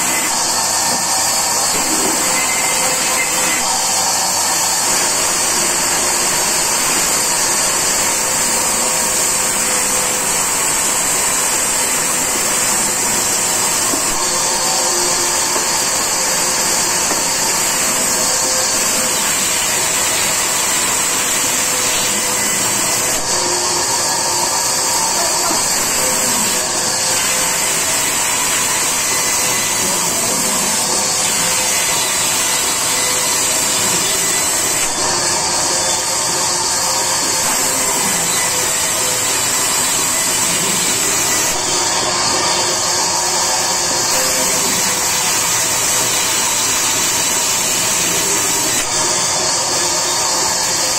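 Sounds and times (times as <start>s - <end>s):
band saw cutting log: 0.0s - 50.9s.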